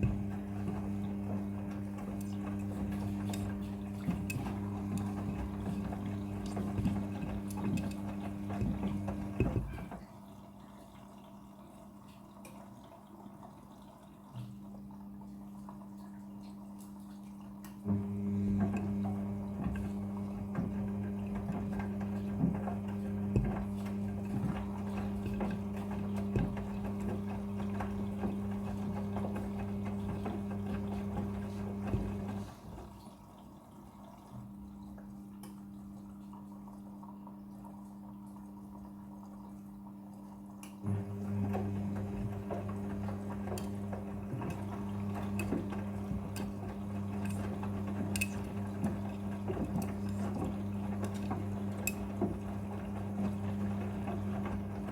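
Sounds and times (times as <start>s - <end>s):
washing machine motor humming: 0.0s - 54.9s
water and laundry sloshing: 0.0s - 54.9s.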